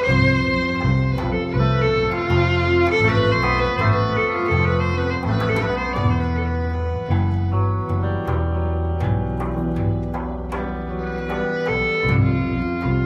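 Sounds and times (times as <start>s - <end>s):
guitar deep pulsing notes: 0.0s - 13.0s
violin melody: 0.0s - 13.0s.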